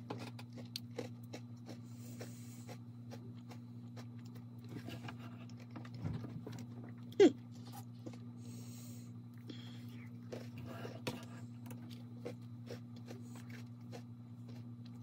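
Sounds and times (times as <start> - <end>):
crunchy chewing: 0.0 - 15.0
steady low hum: 0.0 - 15.0.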